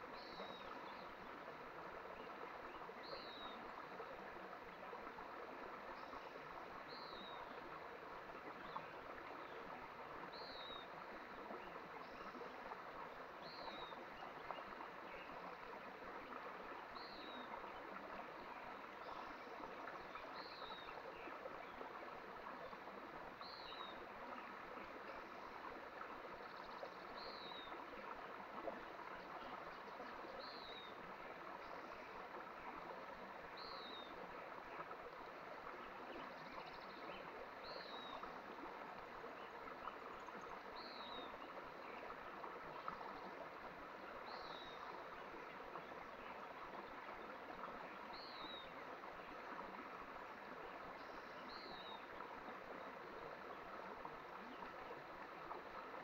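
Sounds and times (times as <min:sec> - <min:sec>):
mountain stream running: 0:00.0 - 0:56.0.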